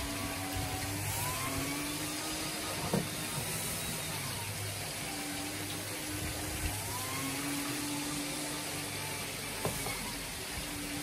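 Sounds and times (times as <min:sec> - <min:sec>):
brush scrubbing wet rug: 0:00.0 - 0:11.0
rug shampooer motor humming: 0:00.0 - 0:11.0.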